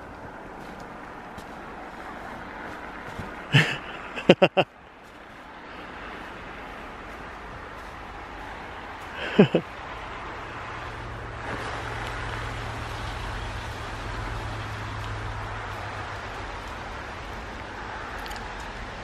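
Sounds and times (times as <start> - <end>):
distant vehicle engine humming: 0.0 - 19.0.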